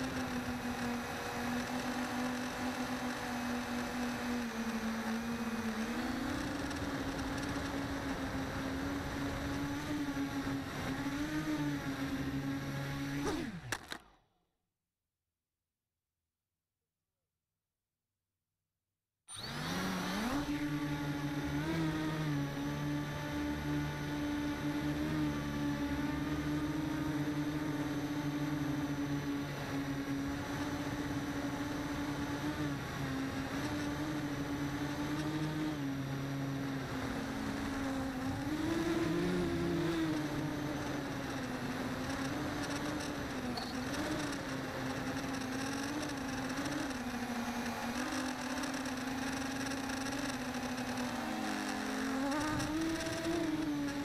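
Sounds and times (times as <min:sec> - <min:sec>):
model motor buzzing: 0:00.0 - 0:14.0, 0:19.3 - 0:54.0.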